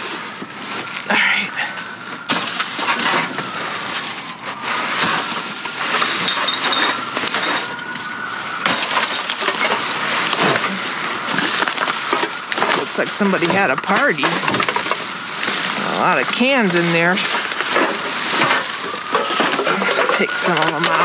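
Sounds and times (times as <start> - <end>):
trash bags rustling and crunching: 0.0 - 21.0.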